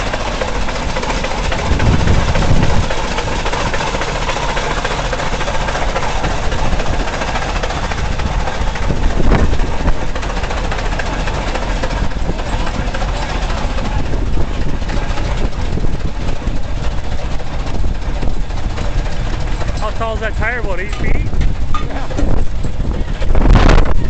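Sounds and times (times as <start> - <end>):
steam traction engine hiss and rumble: 0.0 - 24.0.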